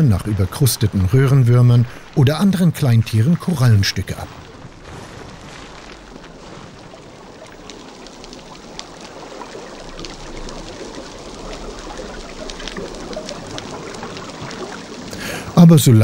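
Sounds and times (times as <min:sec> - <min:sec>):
fish crunching coral: 0:00.0 - 0:15.1.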